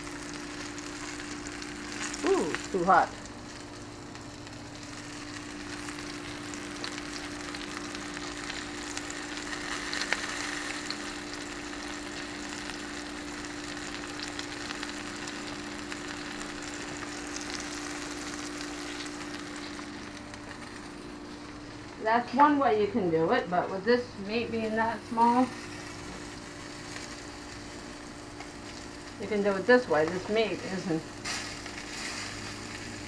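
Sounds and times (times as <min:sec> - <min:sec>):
pork chops sizzling in a pan: 0:00.0 - 0:20.8, 0:24.9 - 0:33.0
constant low hum: 0:00.0 - 0:33.0.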